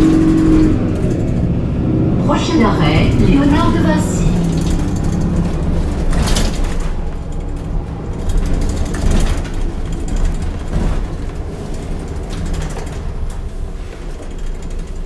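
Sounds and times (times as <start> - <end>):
interior fittings rattling: 0.0 - 1.6, 3.1 - 15.0
bus engine running: 0.0 - 15.0.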